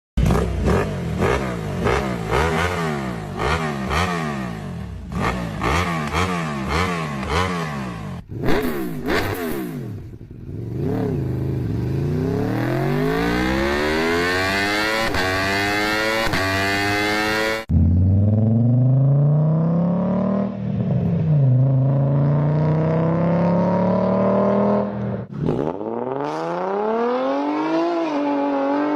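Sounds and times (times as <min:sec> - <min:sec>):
engines revving: 0:00.2 - 0:28.9.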